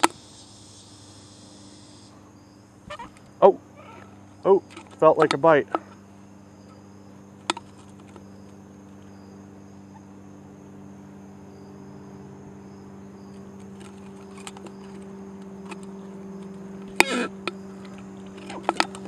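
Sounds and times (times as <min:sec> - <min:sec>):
crickets chirring: 0:00.0 - 0:19.0
low steady hum: 0:00.0 - 0:19.0.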